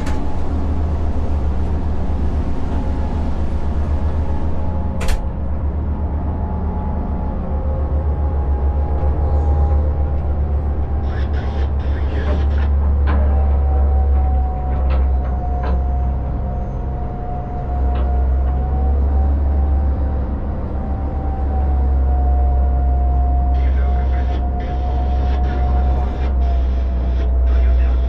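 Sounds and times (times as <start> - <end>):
boat engines rumbling: 0.0 - 28.0
high engine whine: 0.0 - 28.0.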